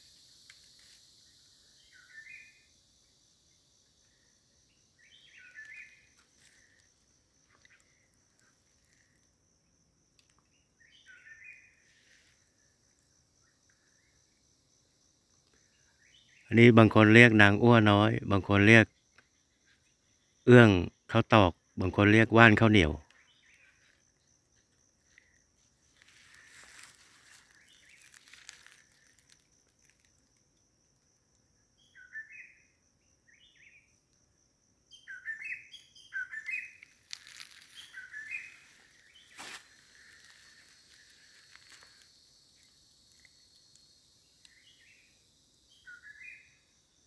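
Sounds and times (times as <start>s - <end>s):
faint bird chirps: 0.0s - 9.3s, 10.3s - 14.5s, 15.4s - 30.1s, 31.6s - 34.0s, 34.9s - 42.0s, 42.6s - 47.0s.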